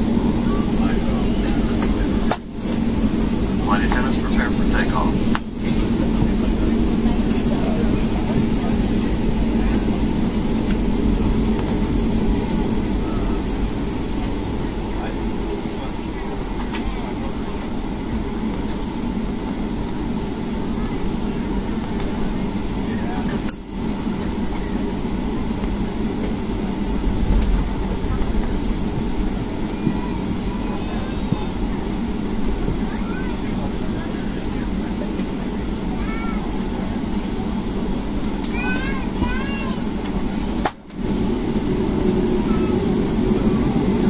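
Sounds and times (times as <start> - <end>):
jet engines rumbling in cabin: 0.0 - 44.0
wheels rolling on taxiway: 0.0 - 44.0.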